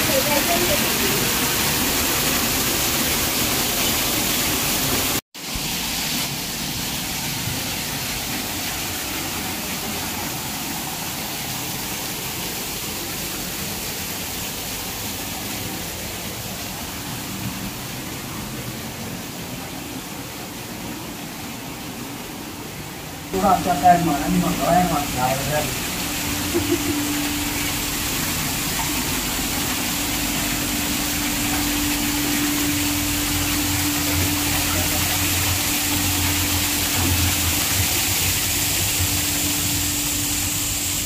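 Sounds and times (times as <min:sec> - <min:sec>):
waterfall splashing into pool: 0:00.0 - 0:22.7, 0:23.3 - 0:41.0.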